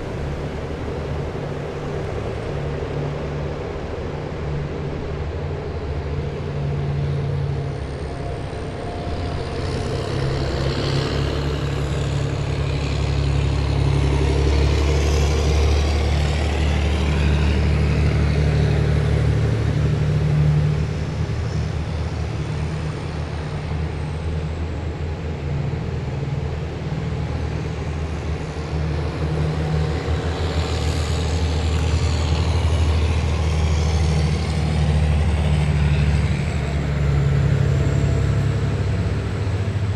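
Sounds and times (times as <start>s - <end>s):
engine and tyre whine: 0.0s - 39.9s
heavy vehicles diesel engines droning: 0.0s - 39.9s.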